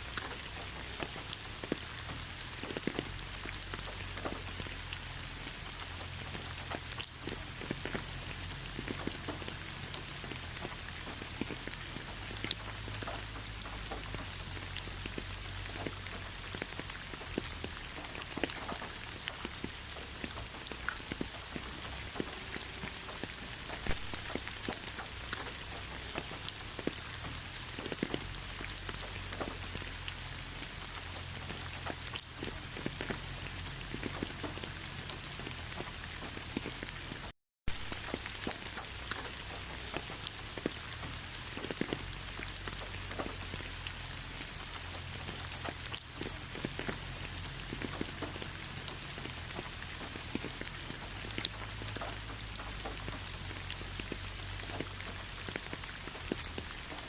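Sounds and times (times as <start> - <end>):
raindrops ticking on a surface: 0.0 - 57.0
steady rainfall: 0.0 - 57.0.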